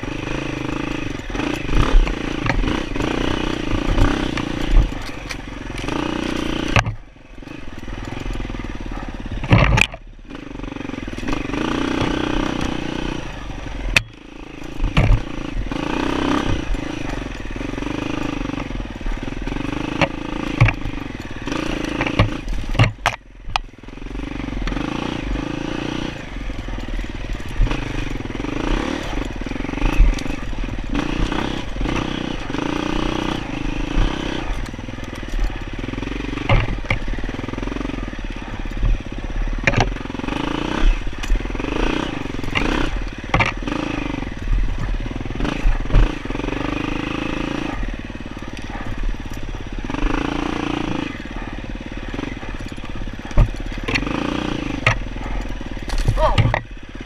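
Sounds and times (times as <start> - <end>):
dirt bike engine revving: 0.0 - 57.0
sharp knocks and clatter: 1.0 - 8.5, 9.3 - 10.5, 13.9 - 23.7, 24.6 - 56.8.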